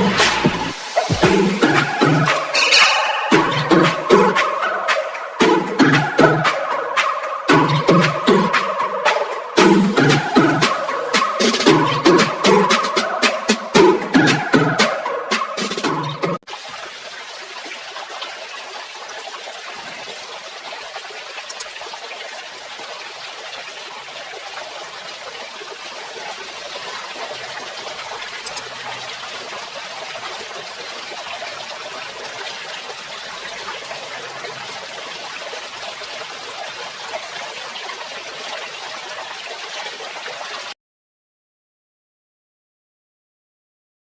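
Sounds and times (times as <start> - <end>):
water trickling and splashing: 0.0 - 15.3, 15.9 - 40.8.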